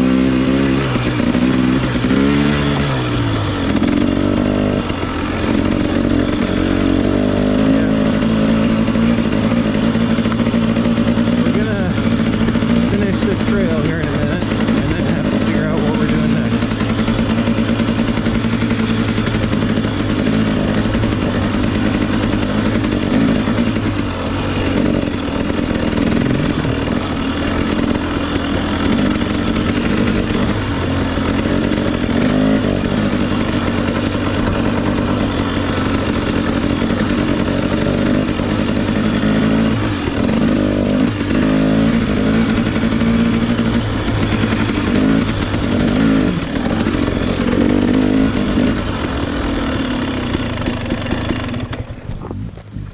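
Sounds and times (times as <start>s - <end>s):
dirt bike engine running: 0.0s - 52.9s.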